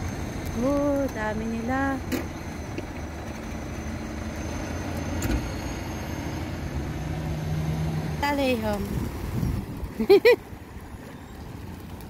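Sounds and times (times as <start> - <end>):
faint engine hum: 0.0 - 12.0
street traffic rumble: 0.0 - 12.0.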